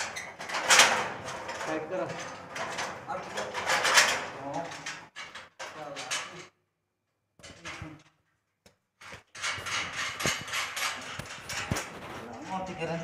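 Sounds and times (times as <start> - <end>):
metal clattering and knocking: 0.0 - 6.6, 9.0 - 13.0.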